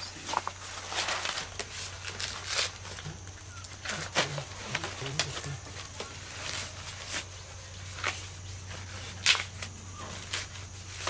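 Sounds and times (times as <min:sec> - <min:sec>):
dry corn husks rustling: 0:00.0 - 0:11.0.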